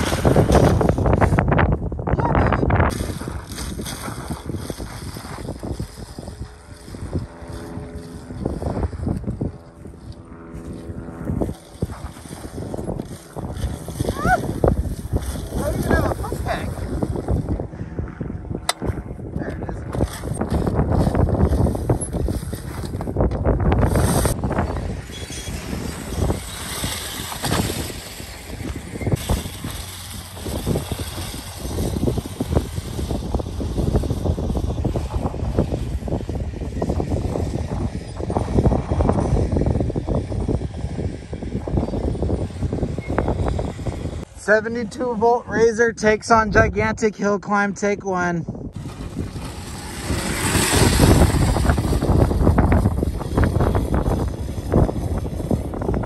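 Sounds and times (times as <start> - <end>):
electric dirt bike riding: 0.0 - 47.0, 48.5 - 56.0
wind buffeting microphone: 0.0 - 56.0.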